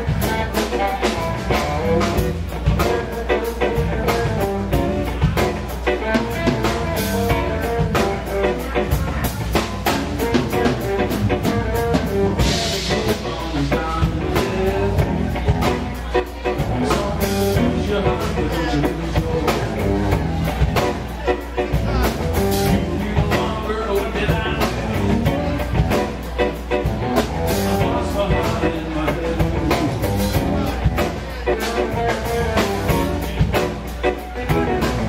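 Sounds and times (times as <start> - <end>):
electric guitar: 0.0 - 35.0
live blues band playing: 0.0 - 35.0.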